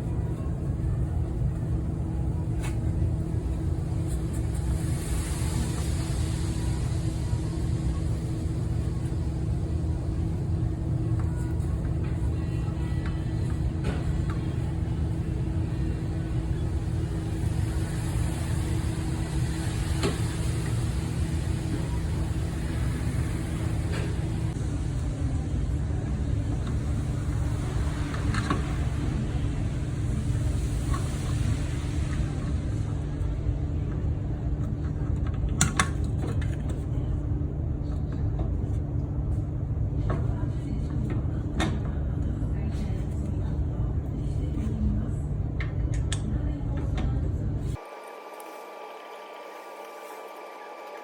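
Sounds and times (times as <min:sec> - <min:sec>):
road rumble: 0:00.0 - 0:47.8
faint steady hum: 0:00.0 - 0:51.0.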